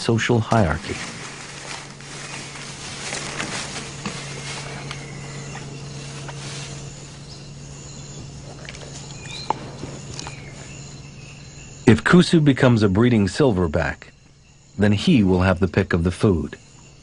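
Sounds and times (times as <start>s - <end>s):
insects calling: 0.0s - 17.0s
steady low hum: 0.0s - 17.0s.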